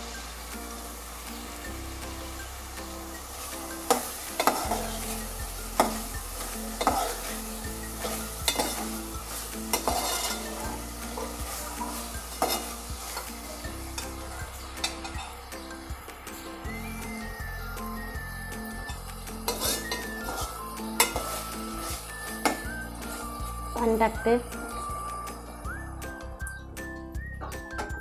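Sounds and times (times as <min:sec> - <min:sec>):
food sizzling in oil: 0:00.0 - 0:26.4.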